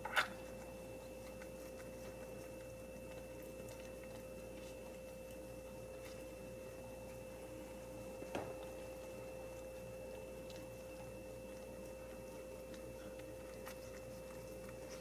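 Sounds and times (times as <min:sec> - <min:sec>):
steady high-pitched hum: 0:00.0 - 0:15.0.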